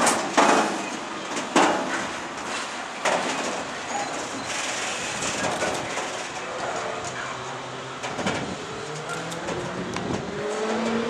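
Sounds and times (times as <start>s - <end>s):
train rolling rumble: 0.0s - 11.0s.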